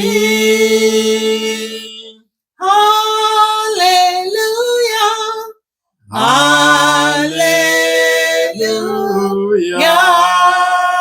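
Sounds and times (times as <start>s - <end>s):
person singing worship song: 0.0s - 11.0s.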